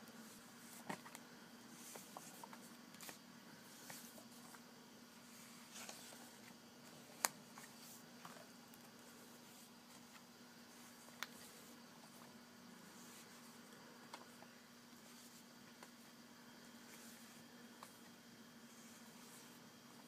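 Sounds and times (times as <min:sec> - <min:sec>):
faint steady hum: 0:00.0 - 0:20.0
comic books rustling: 0:00.2 - 0:20.0.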